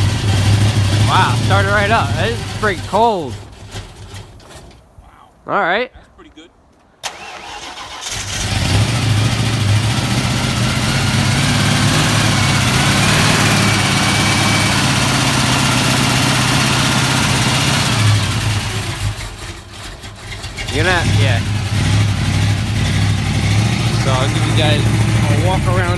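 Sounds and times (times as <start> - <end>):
car engine idling: 0.0 - 4.6, 7.1 - 25.9.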